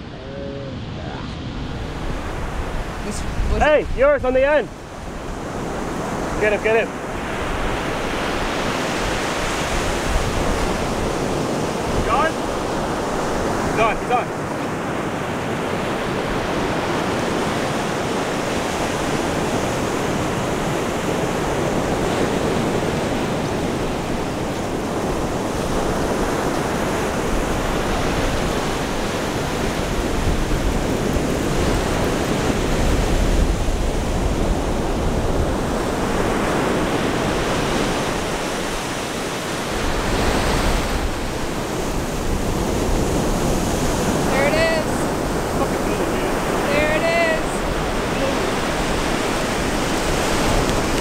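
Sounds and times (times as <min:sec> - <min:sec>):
ocean surf breaking: 0:00.0 - 0:51.0
wind rumbling on microphone: 0:00.0 - 0:51.0.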